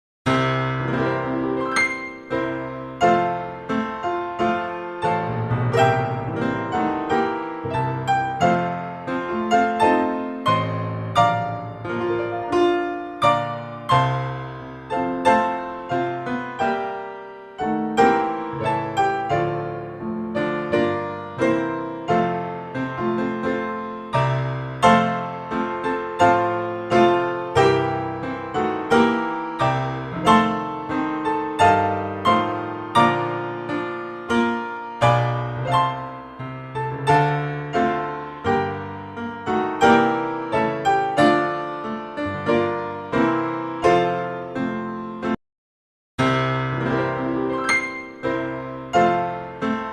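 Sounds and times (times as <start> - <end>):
slow solo piano music: 0.3 - 45.4, 46.2 - 49.9.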